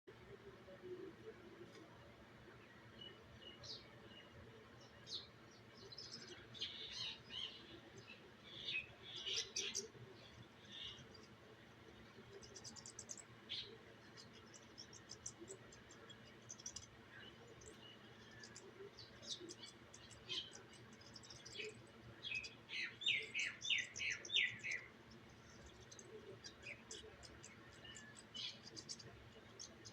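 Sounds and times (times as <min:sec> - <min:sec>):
small birds chirping: 0:00.1 - 0:29.9.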